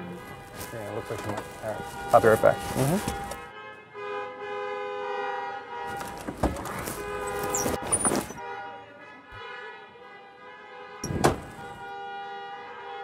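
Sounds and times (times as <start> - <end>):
car horns honking: 0.0 - 13.0.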